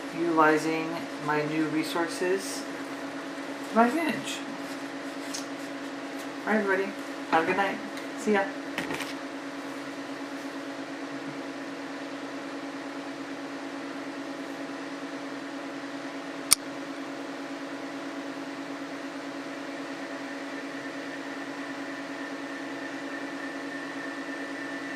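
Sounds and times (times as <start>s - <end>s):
appliance mechanical hum: 0.0s - 24.9s.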